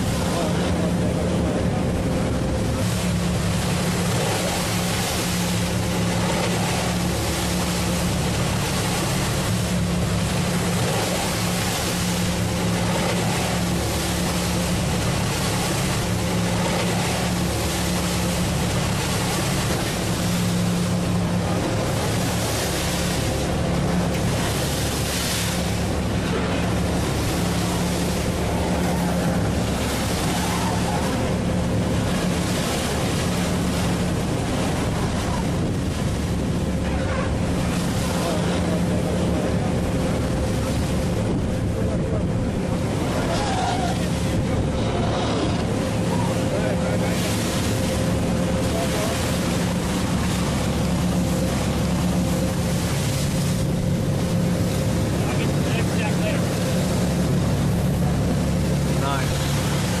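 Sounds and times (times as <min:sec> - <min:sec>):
boat engines droning: 0:00.0 - 1:00.0
water rushing along hull: 0:00.0 - 1:00.0.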